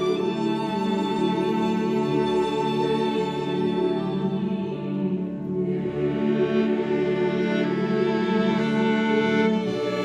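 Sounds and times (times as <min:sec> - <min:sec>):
bowed strings with violin: 0:00.0 - 0:10.0.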